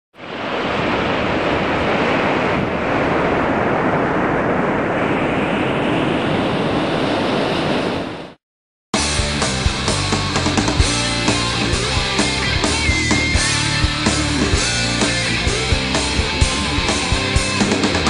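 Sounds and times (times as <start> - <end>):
ocean surf rushing: 0.2 - 8.4, 9.1 - 18.0.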